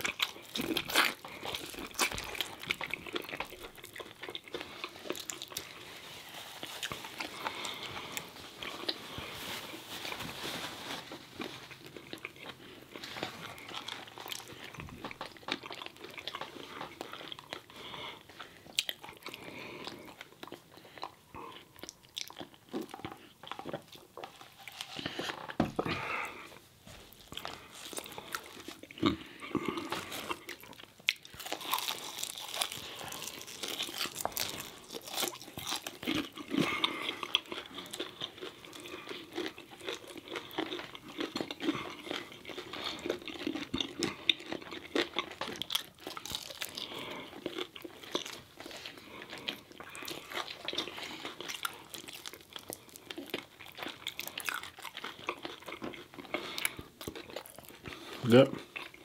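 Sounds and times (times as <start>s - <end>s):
chewing crispy fried food: 0.0s - 59.0s.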